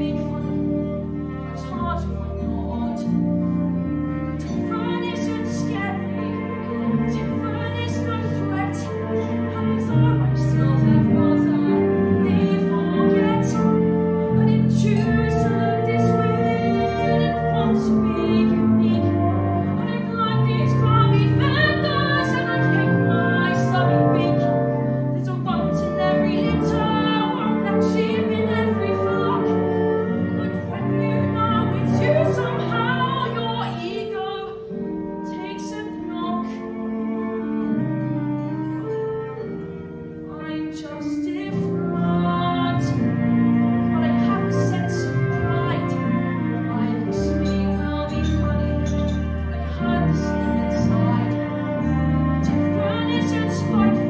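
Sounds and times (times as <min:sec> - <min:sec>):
instrumental accompaniment: 0:00.0 - 0:54.0.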